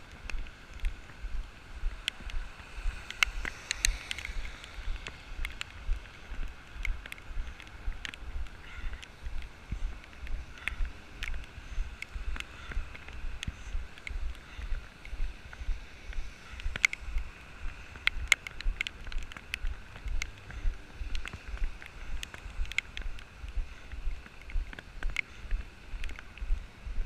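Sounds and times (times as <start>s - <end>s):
rain hissing: 0.0s - 27.0s
sharp ticks: 0.0s - 27.0s.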